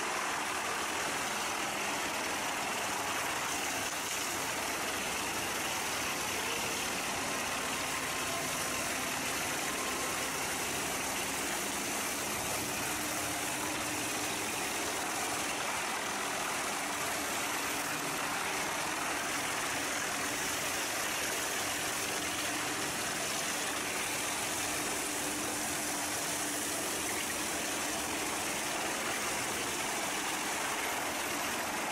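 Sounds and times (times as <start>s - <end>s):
heavy machine engine running: 0.0s - 31.9s.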